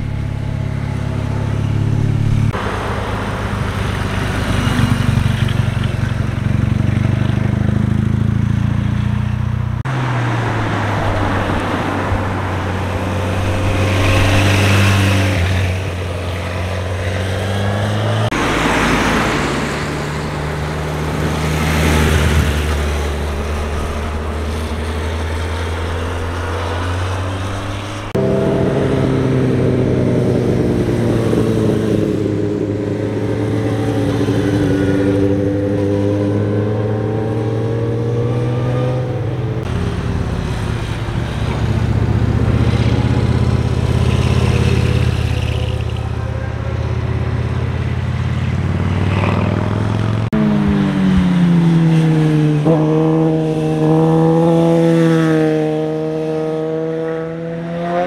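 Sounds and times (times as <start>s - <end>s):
motorcycle engines passing: 0.0s - 58.0s.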